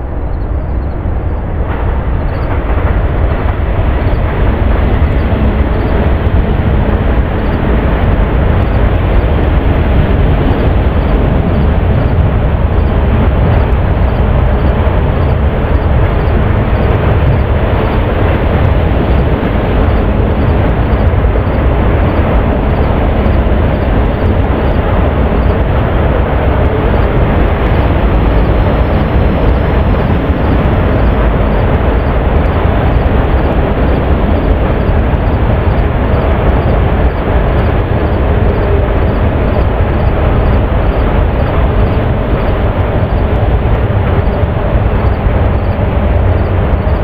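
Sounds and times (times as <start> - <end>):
loud low rumbling noise: 0.0 - 47.0.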